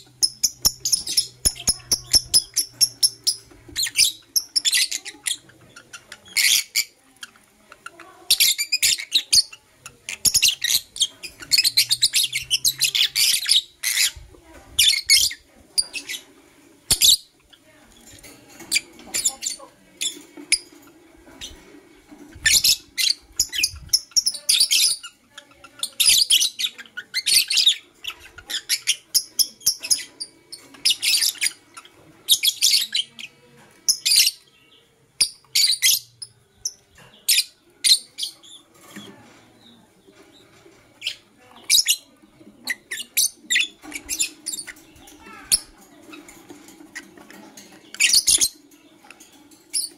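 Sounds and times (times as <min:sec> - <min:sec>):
lovebirds chirping: 0:00.0 - 0:49.9.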